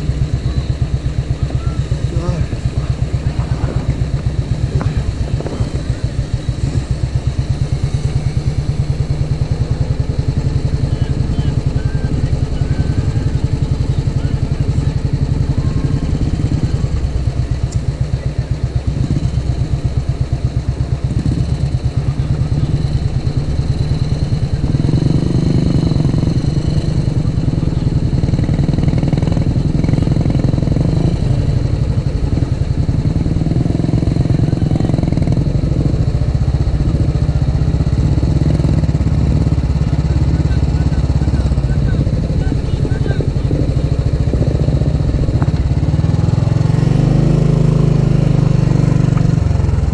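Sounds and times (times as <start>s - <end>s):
motorcycle engine thumping: 0.0s - 47.2s, 48.1s - 49.9s.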